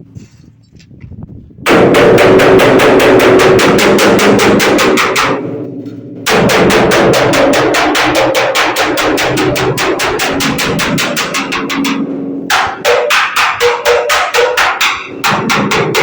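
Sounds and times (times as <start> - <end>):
machine hum: 1.7 - 16.0
machine rattling with rapid knocks: 1.7 - 16.0.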